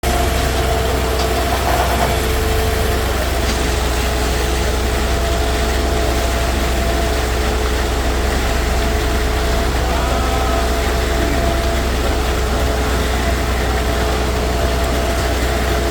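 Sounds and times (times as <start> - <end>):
concrete mixer engine humming: 0.0 - 15.9
steady whine: 0.0 - 15.9.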